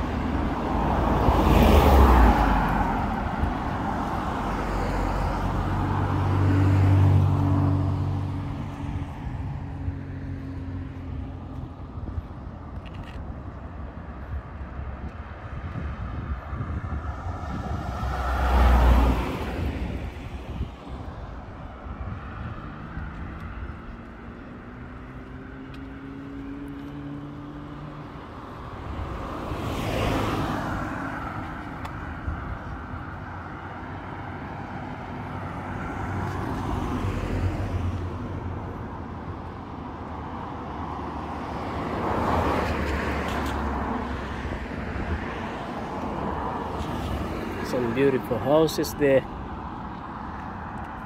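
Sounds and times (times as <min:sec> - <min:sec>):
cars driving past: 0:00.0 - 0:51.0.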